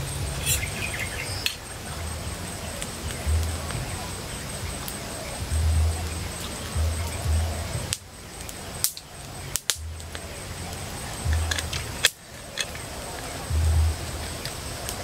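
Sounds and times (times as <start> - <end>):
campfire crackling: 0.0 - 15.0
sharp pops from burning sticks: 0.0 - 15.0.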